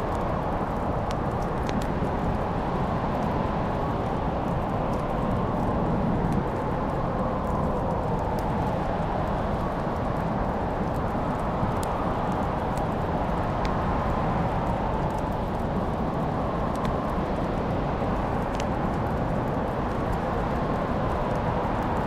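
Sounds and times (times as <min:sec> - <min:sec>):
fireplace fire crackling: 0:00.0 - 0:22.0.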